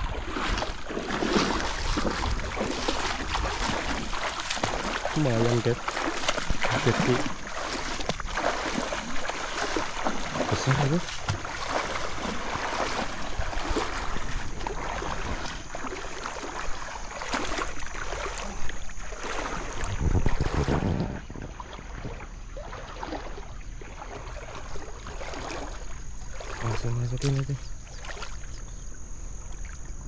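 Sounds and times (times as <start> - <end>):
cast net of fish being hauled: 0.0 - 30.0
water splashing: 0.0 - 30.0.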